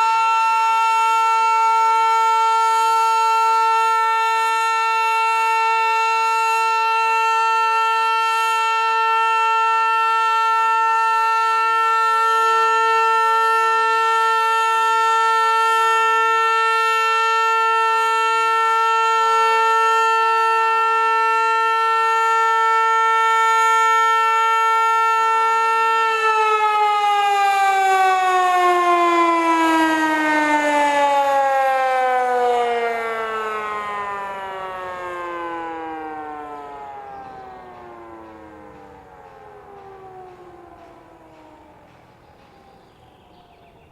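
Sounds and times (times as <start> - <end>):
siren steady loud tone: 0.0 - 43.9.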